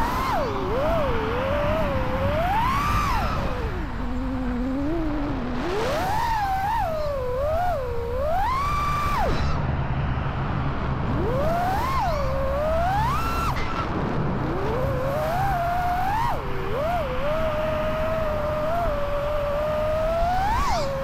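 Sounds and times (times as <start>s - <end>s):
quadcopter motors whining: 0.0s - 9.7s, 10.9s - 21.0s
low rush of wind: 0.0s - 21.0s.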